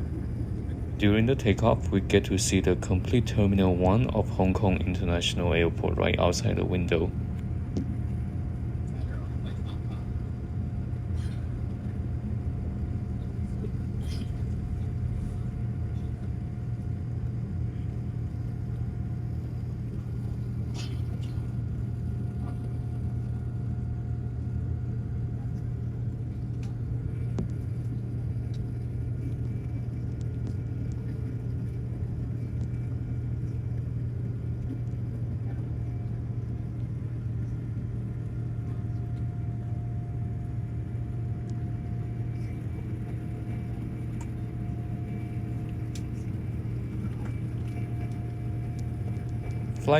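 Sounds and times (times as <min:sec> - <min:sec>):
faint steady whine: 0:00.0 - 0:49.9
jet engines rumbling: 0:00.0 - 0:49.9.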